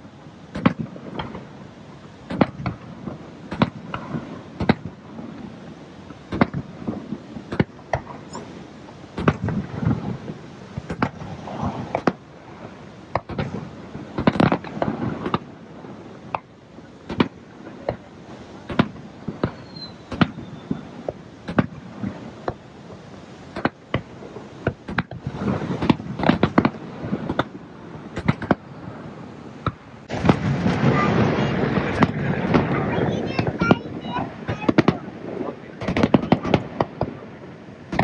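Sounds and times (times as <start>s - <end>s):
fireworks bangs: 0.0s - 38.0s.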